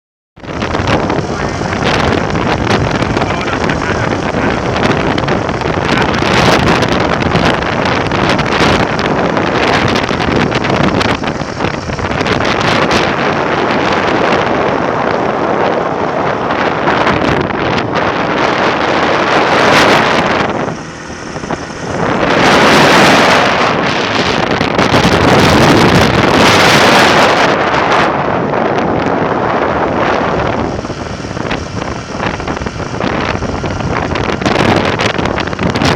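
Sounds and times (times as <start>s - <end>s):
strong wind buffeting microphone: 0.4s - 35.9s.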